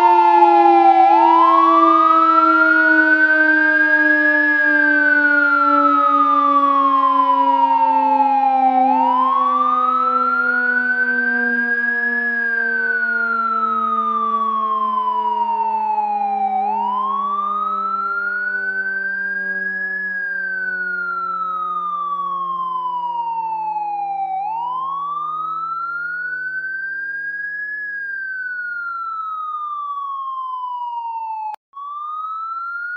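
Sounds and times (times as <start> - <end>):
fire truck siren wailing: 0.0 - 32.9.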